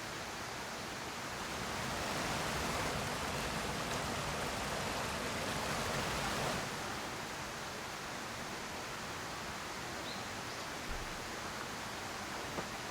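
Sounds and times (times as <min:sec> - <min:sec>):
small waterfall splashing: 0:00.0 - 0:12.9.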